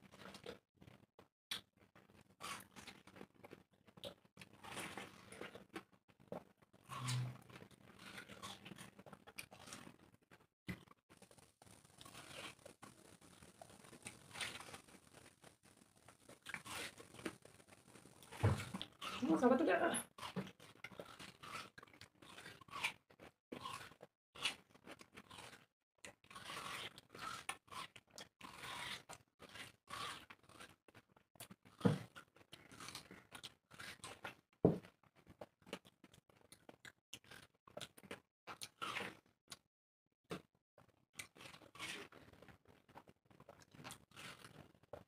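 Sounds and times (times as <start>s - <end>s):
people crunching watermelon: 0.1s - 39.3s, 41.2s - 45.0s.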